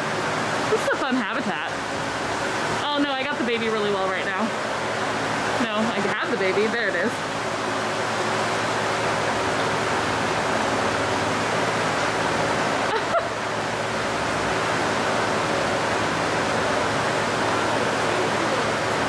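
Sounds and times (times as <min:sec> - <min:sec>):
falling water rushing: 0:00.0 - 0:19.0.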